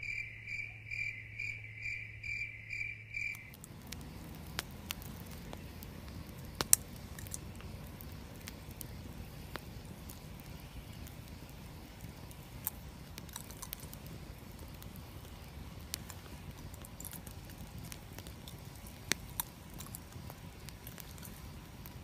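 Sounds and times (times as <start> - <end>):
fire crackling and popping: 3.2 - 22.0
fire flame rush: 3.5 - 22.0.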